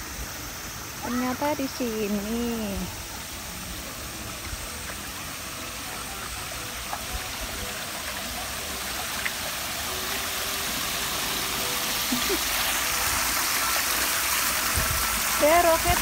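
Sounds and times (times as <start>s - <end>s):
water spilling over stone cascades: 0.0s - 16.0s.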